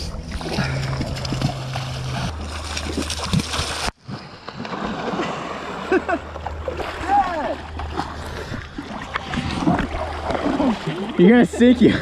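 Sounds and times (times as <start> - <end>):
person running through water: 0.4 - 11.2.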